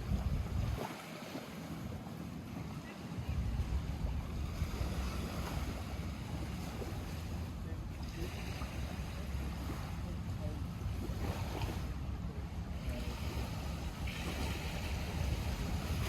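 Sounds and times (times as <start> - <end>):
lake water lapping: 0.0 - 16.0
wind rumbling on microphone: 0.0 - 16.0.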